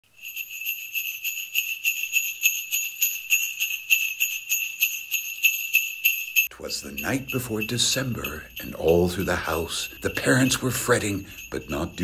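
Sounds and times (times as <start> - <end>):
sleigh bells jingling: 0.0 - 12.0.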